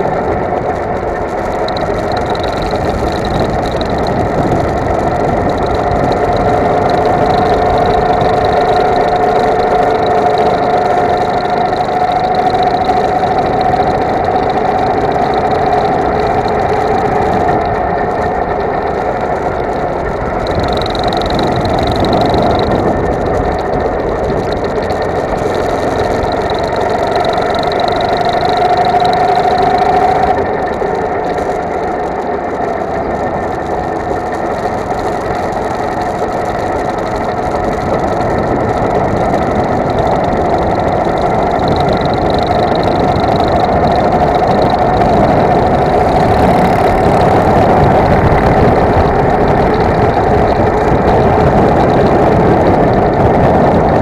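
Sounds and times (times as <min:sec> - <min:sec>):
go-kart engine: 0:00.0 - 0:54.0.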